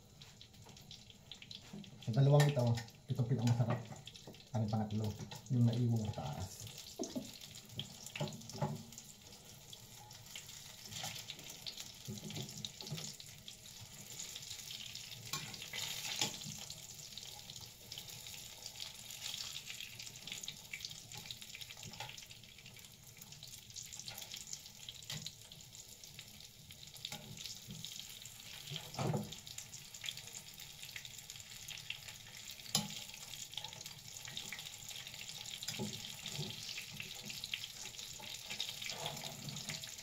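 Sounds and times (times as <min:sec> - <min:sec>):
food sizzling in frying pan: 0:00.0 - 0:40.0.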